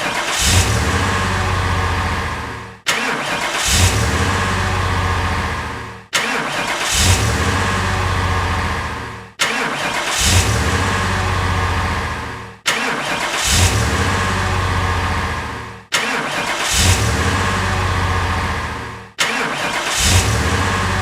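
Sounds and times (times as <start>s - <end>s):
car engine cranking and starting: 0.0s - 21.0s.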